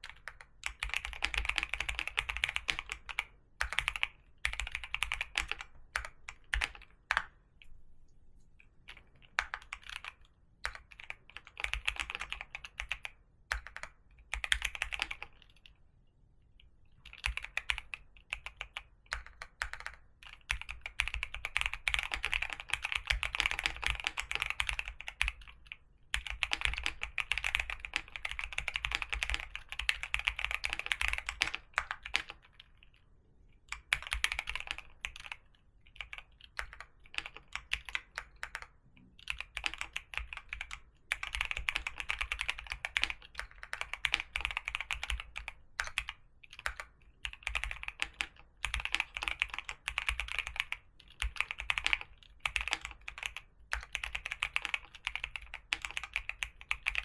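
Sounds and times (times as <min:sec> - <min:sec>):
typing on a keyboard: 0:00.0 - 0:07.4, 0:08.9 - 0:15.8, 0:17.0 - 0:33.0, 0:33.7 - 0:57.0.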